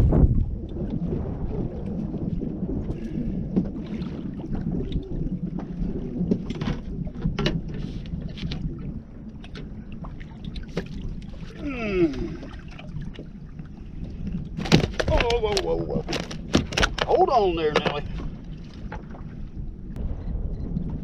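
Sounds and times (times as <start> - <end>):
water lapping against hull: 0.0 - 21.0
wind on microphone: 0.0 - 21.0.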